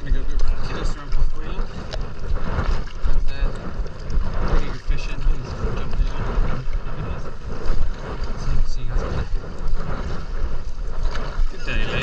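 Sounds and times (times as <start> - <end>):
paddle splashing water: 0.0 - 12.0
wind buffeting microphone: 0.0 - 12.0.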